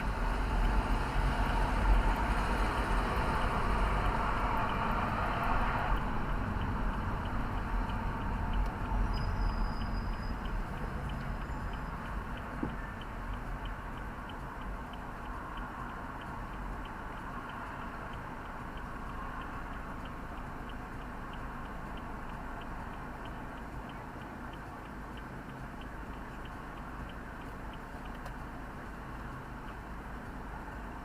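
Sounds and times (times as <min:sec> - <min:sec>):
car interior rumble: 0:00.0 - 0:31.0.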